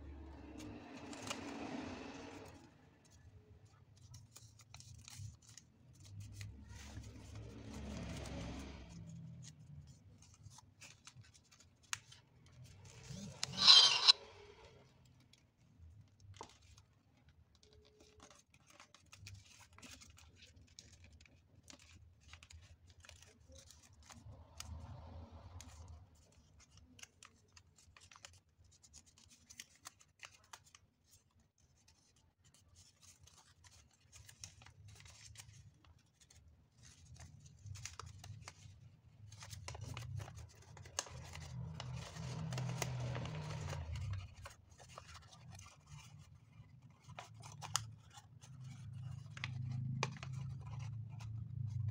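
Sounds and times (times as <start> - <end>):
paper folding and crinkling: 3.1 - 7.8, 9.0 - 14.0, 15.2 - 24.4, 25.6 - 51.9.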